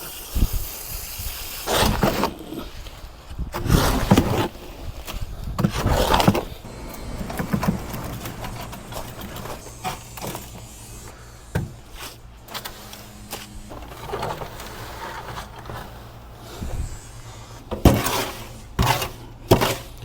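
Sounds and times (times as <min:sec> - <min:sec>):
concrete mixing churning: 0:01.6 - 0:20.0.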